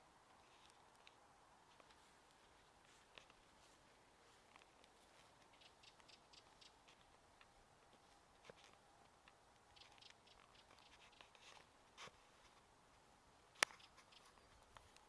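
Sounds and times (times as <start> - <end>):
soft clicks and ticks: 0.2 - 3.8, 4.4 - 12.6, 13.5 - 15.0.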